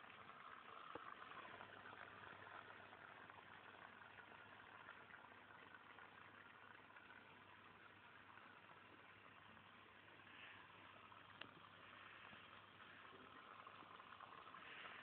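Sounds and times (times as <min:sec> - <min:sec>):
faint steady hiss: 0:00.0 - 0:15.0
low hum: 0:00.0 - 0:15.0.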